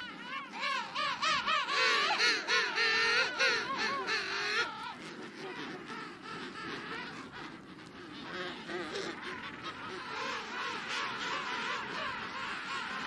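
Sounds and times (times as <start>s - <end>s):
penguins calling: 0.0s - 13.0s.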